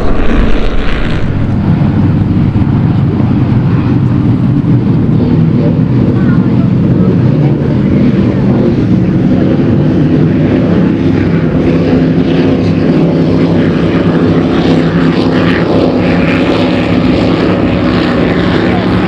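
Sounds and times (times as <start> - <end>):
powerboat engines droning: 0.0 - 19.0.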